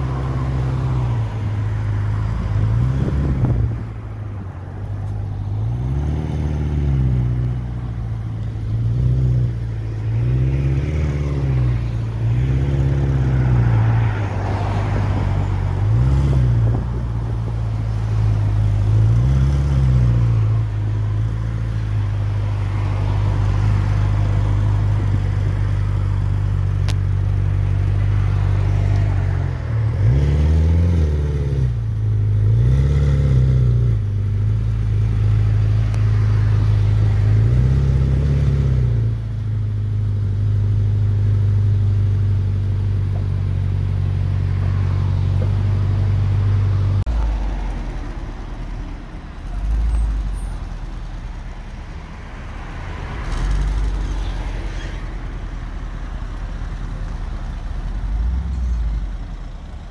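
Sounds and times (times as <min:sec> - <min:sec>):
low engine rumble: 0:00.0 - 0:32.8, 0:33.4 - 0:59.9
car engine idling and revving: 0:00.0 - 0:59.9.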